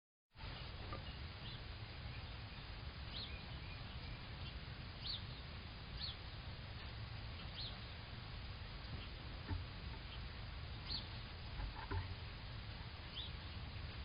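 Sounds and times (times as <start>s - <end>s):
birds chirping faintly: 0.4s - 14.0s
steady low rumble: 0.4s - 14.0s.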